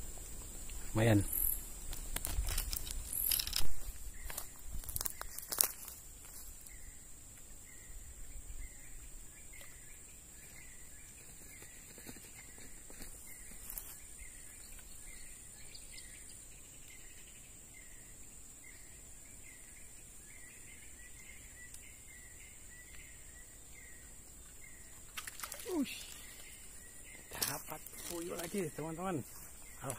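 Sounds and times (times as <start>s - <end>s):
high insect drone: 0.0s - 29.9s.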